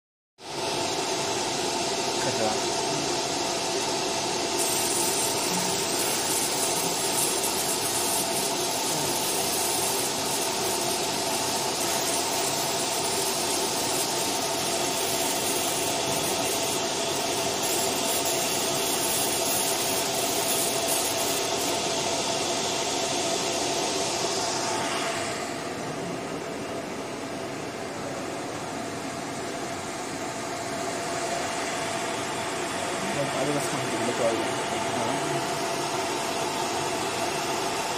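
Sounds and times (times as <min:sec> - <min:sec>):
laser marking machine whirring: 0:00.4 - 0:37.9.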